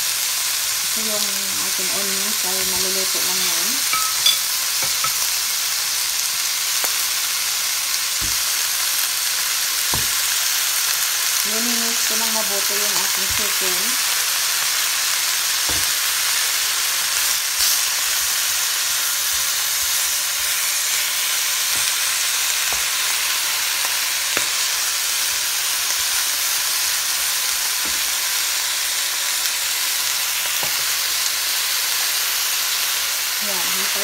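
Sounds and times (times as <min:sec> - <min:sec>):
chicken sizzling in oil: 0:00.0 - 0:34.0.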